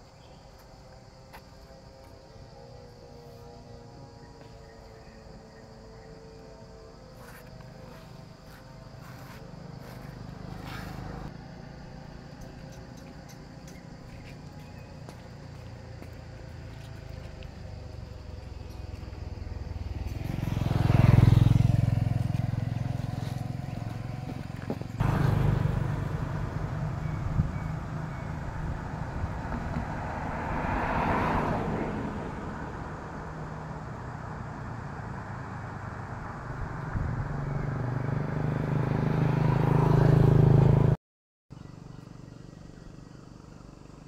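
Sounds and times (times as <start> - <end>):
low road rumble: 0.0 - 44.0
vehicle passing by: 2.9 - 41.0.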